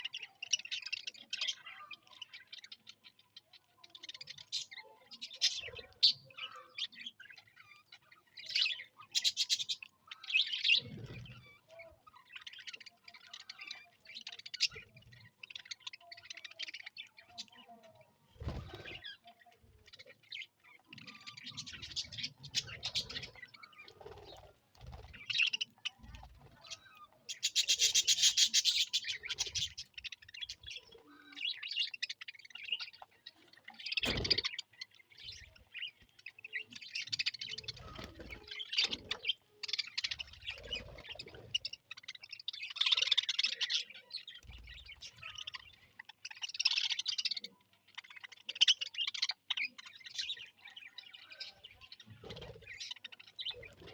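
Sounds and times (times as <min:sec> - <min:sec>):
budgerigars chirping and chattering: 0:00.0 - 0:53.9.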